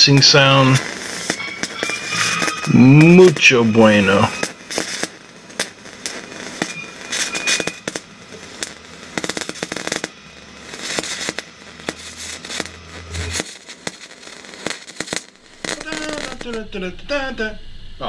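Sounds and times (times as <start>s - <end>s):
welding arc hissing and crackling: 0.0s - 17.2s.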